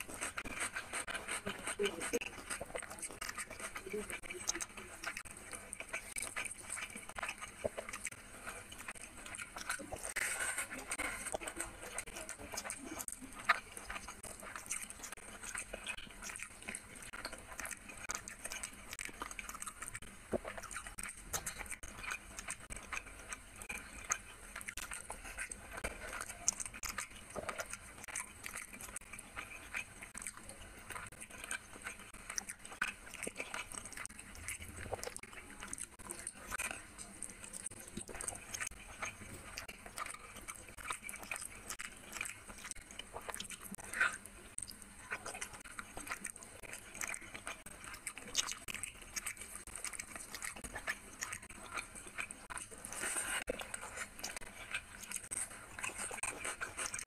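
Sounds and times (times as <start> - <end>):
fingers squishing wet food: 0.0 - 57.0.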